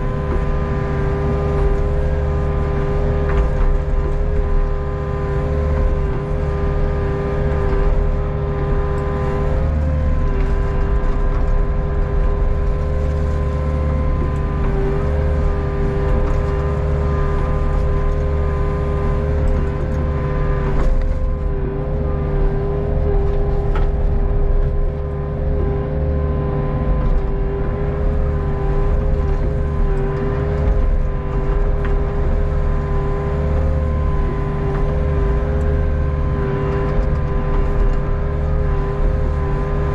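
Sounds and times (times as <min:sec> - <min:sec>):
excavator engine humming: 0:00.0 - 0:39.9
steady hydraulic whine: 0:00.0 - 0:39.9.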